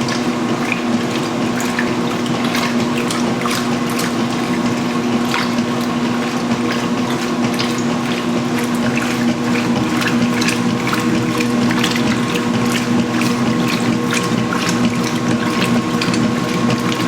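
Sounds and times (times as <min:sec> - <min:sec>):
washing machine hum: 0:00.0 - 0:17.0
water rushing into tub: 0:00.0 - 0:17.0
water splashing: 0:00.0 - 0:17.0.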